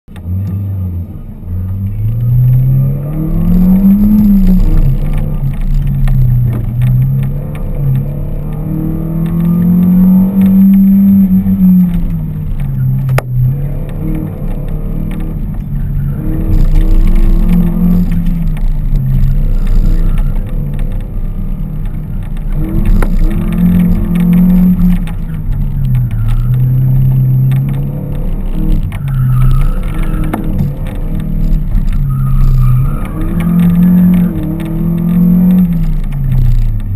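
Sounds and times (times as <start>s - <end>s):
low road rumble: 0.0s - 36.9s
car engine revving: 0.1s - 36.9s.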